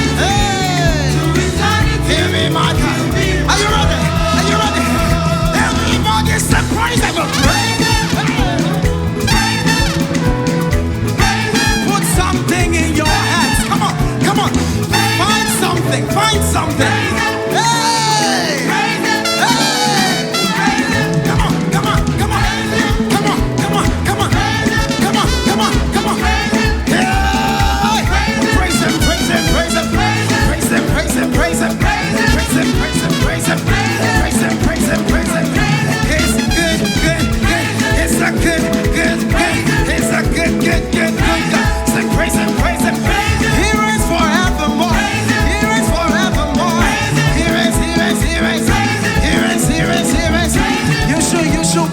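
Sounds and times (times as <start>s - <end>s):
live worship band music: 0.0s - 51.9s
people singing: 0.0s - 51.9s.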